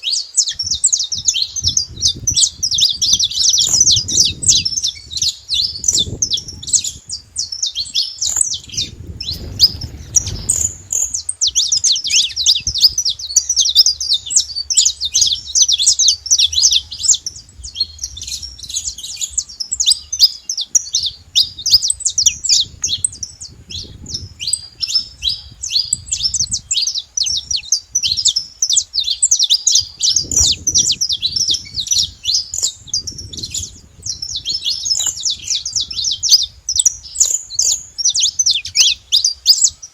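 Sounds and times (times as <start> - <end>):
finch chirping: 0.0 - 39.9.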